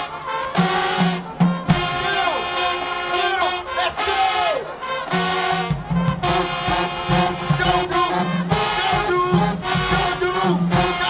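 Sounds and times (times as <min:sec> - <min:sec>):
marching band brass playing: 0:00.0 - 0:11.0.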